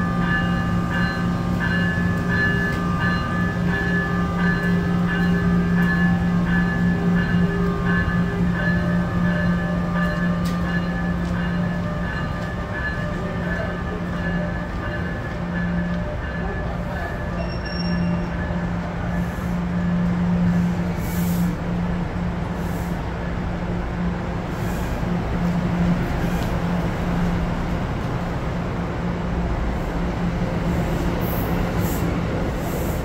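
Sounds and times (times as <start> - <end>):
electric train humming: 0.0 - 33.0.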